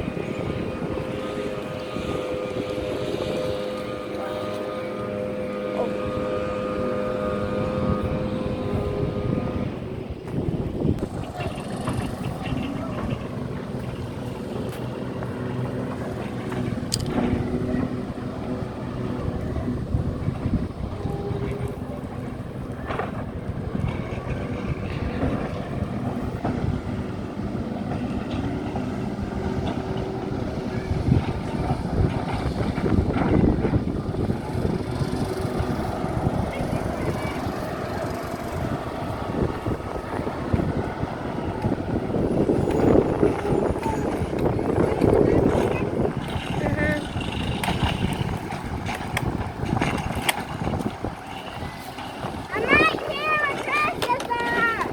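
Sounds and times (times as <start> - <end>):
vehicle engine running: 0.0 - 54.9
wind on microphone: 0.0 - 54.9.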